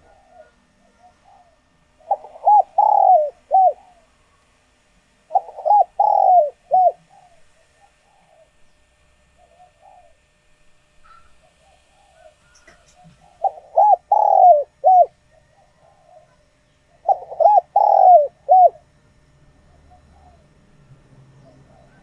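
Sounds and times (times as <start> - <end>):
dove cooing: 0.0 - 4.5, 5.2 - 8.6, 9.3 - 10.5, 11.1 - 22.0.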